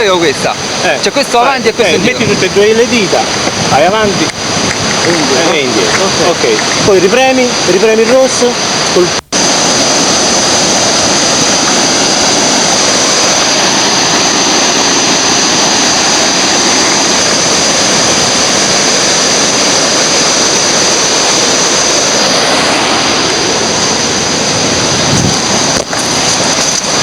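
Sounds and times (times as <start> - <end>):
river white water rushing: 0.0 - 27.0.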